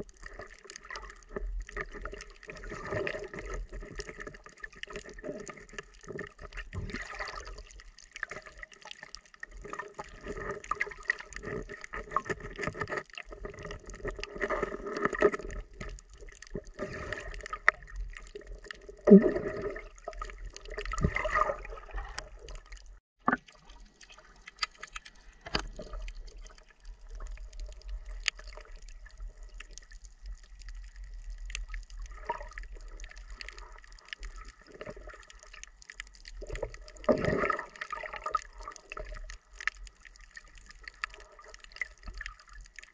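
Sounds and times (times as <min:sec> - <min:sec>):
muffled underwater bubbling: 0:00.0 - 0:42.8.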